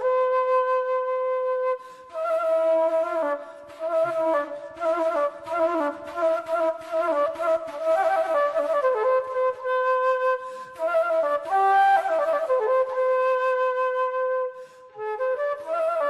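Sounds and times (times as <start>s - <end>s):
solo flute melody: 0.0s - 16.0s.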